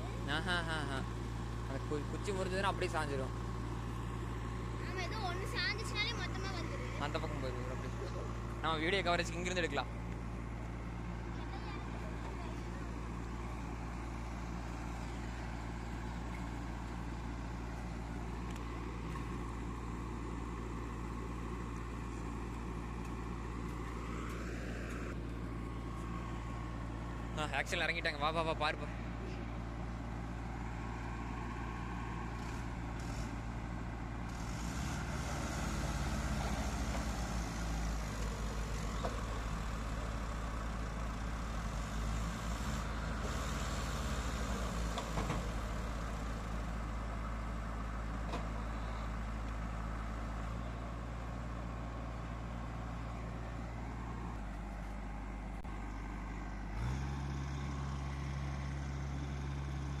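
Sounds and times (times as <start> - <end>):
diesel engines running: 0.0 - 60.0.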